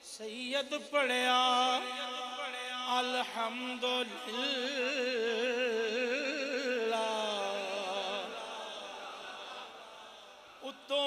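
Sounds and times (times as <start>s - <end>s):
man singing with heavy vibrato: 0.0s - 11.0s.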